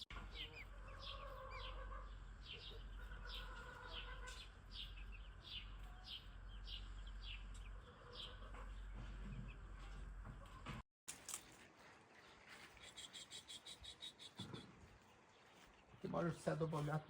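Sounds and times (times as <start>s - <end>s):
chicks peeping: 0.1s - 10.7s, 12.6s - 16.2s.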